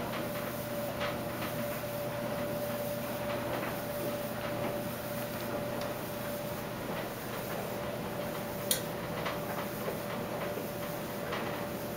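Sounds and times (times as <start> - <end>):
washing machine humming: 0.0 - 11.9.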